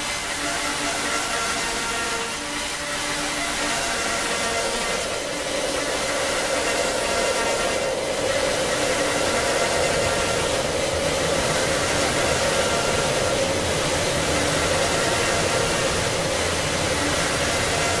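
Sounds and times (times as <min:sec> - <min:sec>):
dark ambient noise drone: 0:00.0 - 0:18.0.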